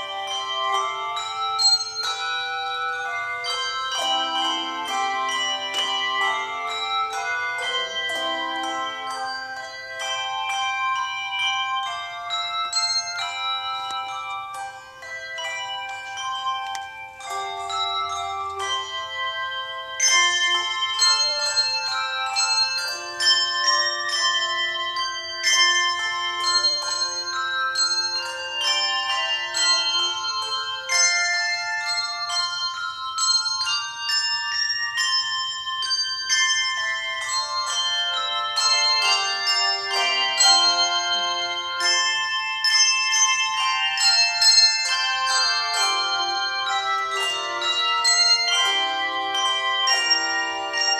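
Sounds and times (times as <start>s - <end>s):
tune played on tuned bells: 0.0s - 50.9s.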